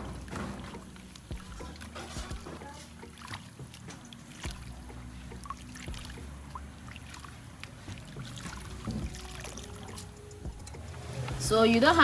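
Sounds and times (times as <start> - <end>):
water sloshing and dripping: 0.0 - 12.0.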